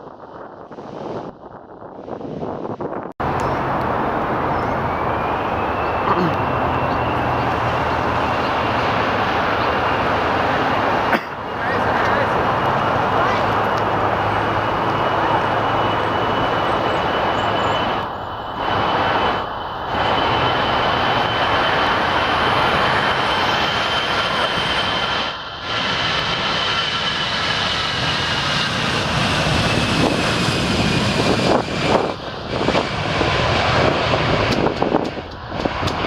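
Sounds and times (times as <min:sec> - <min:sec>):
jet engines rumbling and whining: 0:00.0 - 0:36.0.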